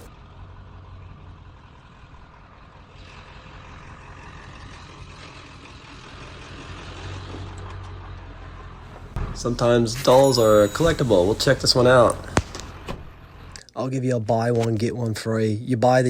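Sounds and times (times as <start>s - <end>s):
vehicle engine humming: 0.0s - 13.7s.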